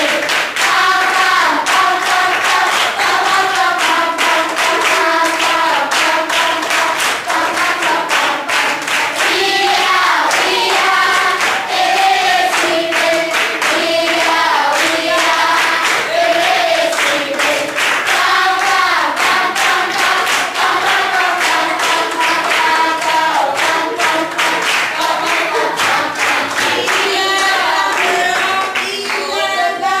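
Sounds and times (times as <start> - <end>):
children singing: 0.0 - 30.0
clapping in a steady beat: 0.0 - 30.0.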